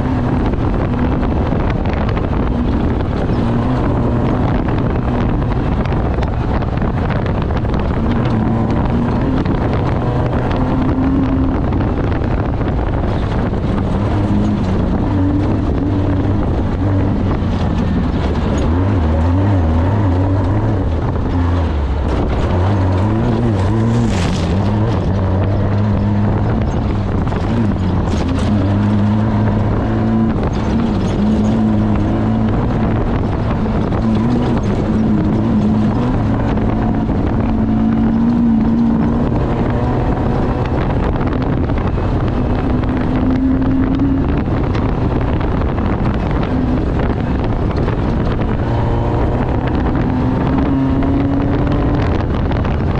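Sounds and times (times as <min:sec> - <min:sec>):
race vehicle engine running hard: 0:00.0 - 0:52.9
wind buffeting microphone: 0:00.0 - 0:52.9.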